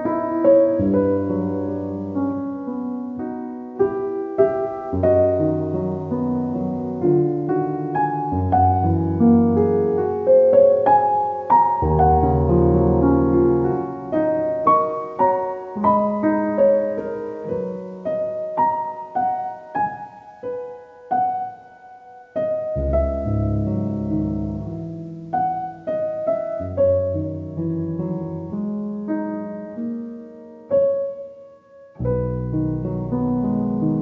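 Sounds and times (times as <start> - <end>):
gentle solo piano music: 0.0 - 34.0.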